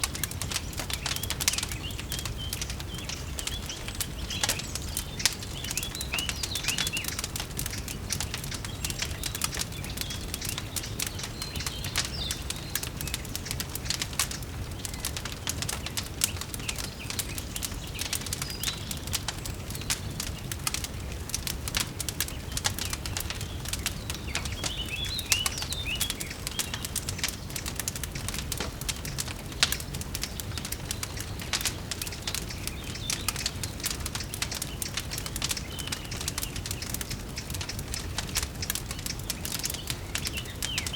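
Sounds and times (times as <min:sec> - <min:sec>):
bird chirping: 0:00.0 - 0:21.2, 0:22.2 - 0:40.9
wood fire crackling: 0:00.0 - 0:40.9.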